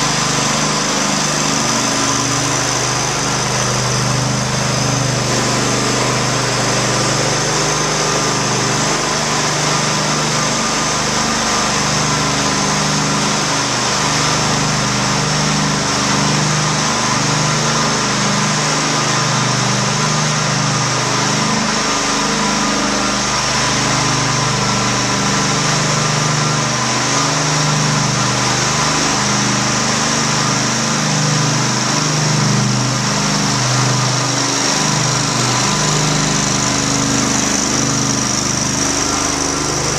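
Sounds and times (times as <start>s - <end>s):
floor burnisher engine running: 0.0s - 39.9s.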